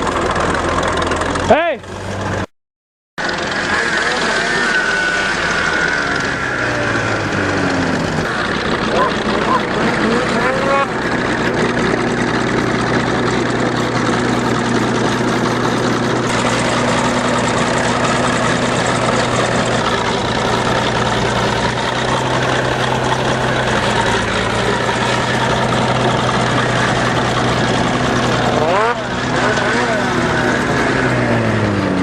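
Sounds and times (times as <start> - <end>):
engine running steadily: 0.0 - 2.5, 3.2 - 32.0.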